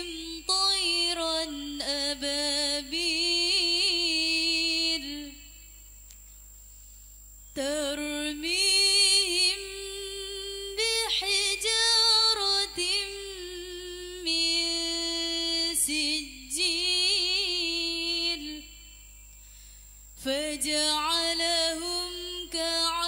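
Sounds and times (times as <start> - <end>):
woman chanting through loudspeaker: 0.0 - 5.5, 7.6 - 18.8, 20.2 - 23.0.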